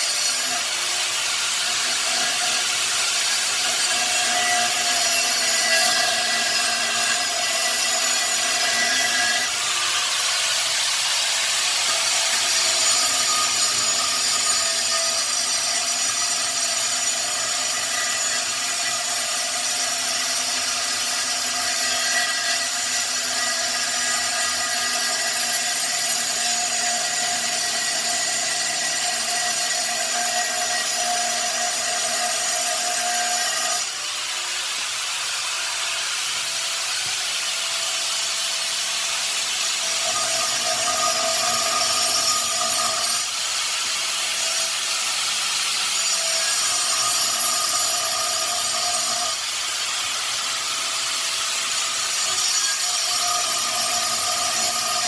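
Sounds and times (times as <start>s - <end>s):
power tool cutting: 0.0s - 55.0s.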